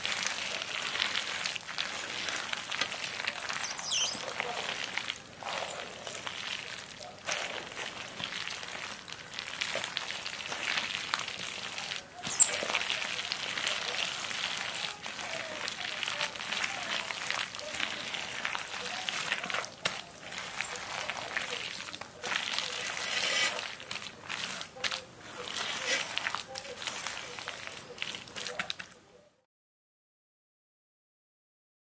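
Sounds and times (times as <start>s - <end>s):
wet crackly mixing in a bowl: 0.0s - 29.4s.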